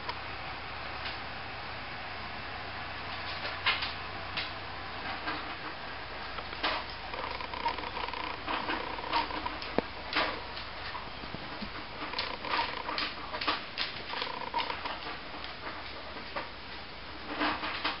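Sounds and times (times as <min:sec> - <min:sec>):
paws tapping on tile floor: 0:03.2 - 0:18.0.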